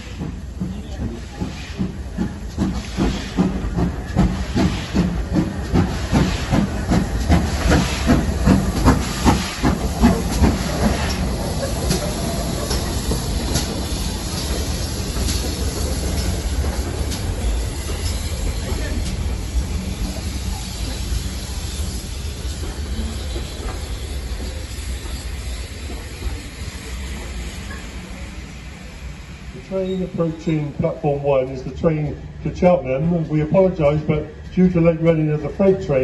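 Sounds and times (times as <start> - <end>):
moving train hiss and rumble: 0.0 - 36.0
steam locomotive chuffing: 0.0 - 36.0.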